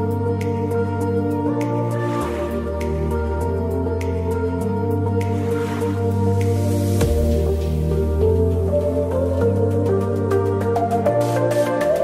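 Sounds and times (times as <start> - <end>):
soft new-age instrumental music: 0.0 - 12.0.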